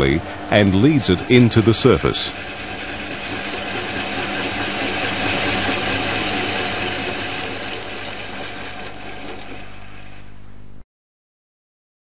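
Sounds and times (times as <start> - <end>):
hole saw grinding metal: 0.0 - 9.7
drill humming: 0.0 - 10.3.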